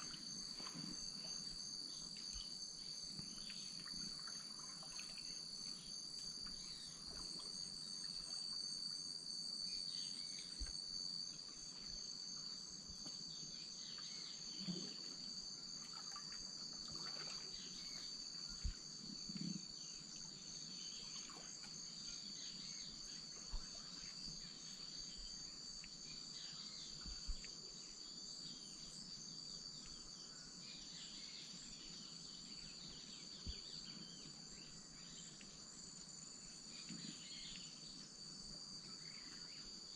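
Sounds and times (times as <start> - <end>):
insect trills: 0.0 - 39.9.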